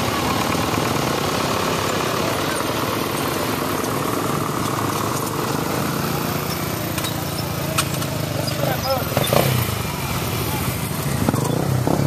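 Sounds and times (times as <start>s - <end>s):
tractor and dirt bike engines: 0.0s - 12.0s.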